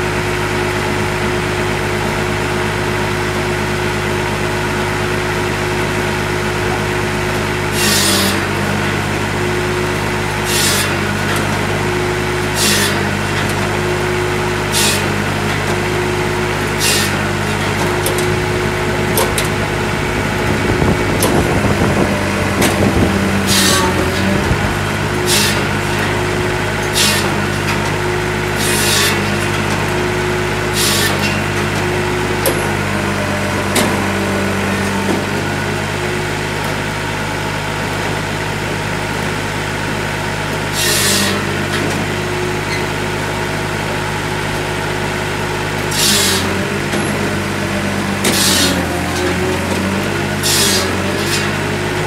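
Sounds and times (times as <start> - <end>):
firewood processor harsh noise: 0.0 - 52.0
tractor diesel engine running: 0.0 - 52.0.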